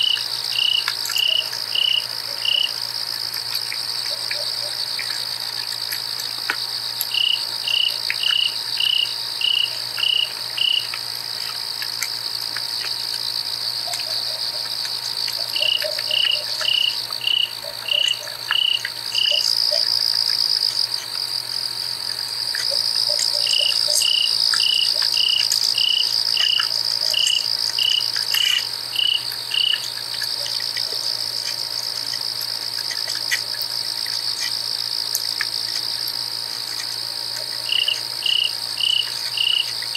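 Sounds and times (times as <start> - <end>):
crickets droning: 0.0 - 39.9
loud insect chirping: 0.0 - 39.9.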